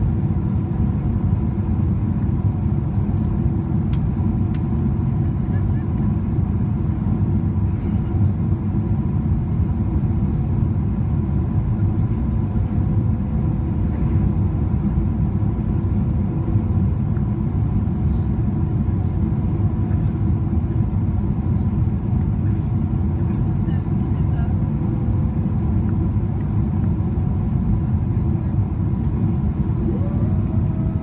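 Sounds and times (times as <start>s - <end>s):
airplane cabin rumble: 0.0s - 31.0s.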